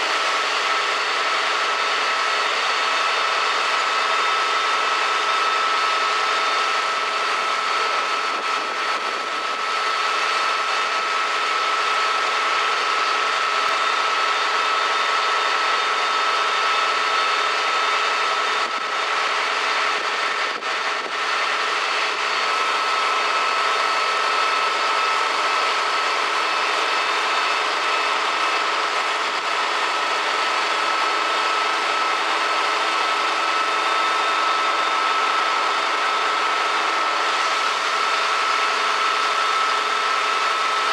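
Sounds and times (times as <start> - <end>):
fire engine pump droning: 0.0 - 40.9
steady high whine: 0.0 - 40.9.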